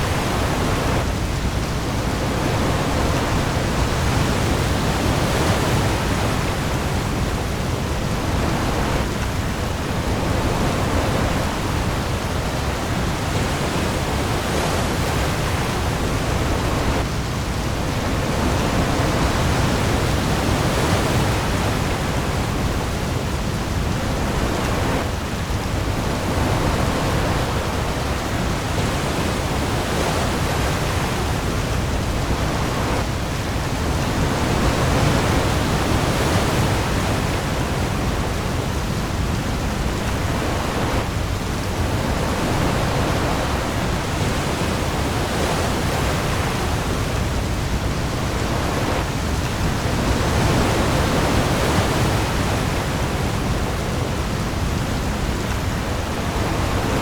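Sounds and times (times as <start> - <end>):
heavy rain on the sea: 0.0 - 57.0
waves: 0.0 - 57.0.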